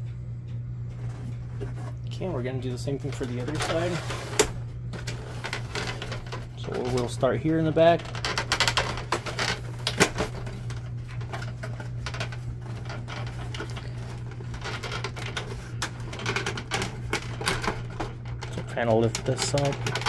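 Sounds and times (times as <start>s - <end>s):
plastic clicking and creaking: 3.0s - 20.0s.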